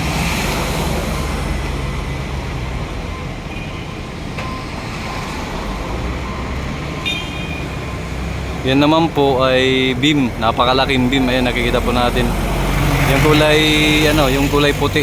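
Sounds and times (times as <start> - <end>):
street traffic engines rumbling: 0.0 - 15.0.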